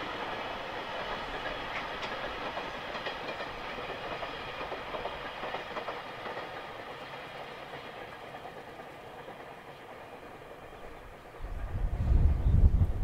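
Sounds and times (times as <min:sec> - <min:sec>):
distant train wheels on rails: 0:00.0 - 0:13.0.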